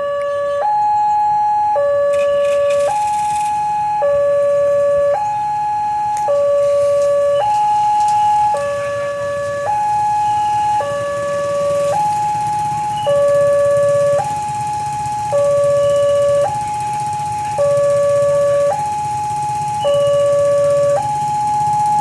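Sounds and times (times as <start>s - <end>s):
two-tone crossing alarm: 0.0s - 22.0s.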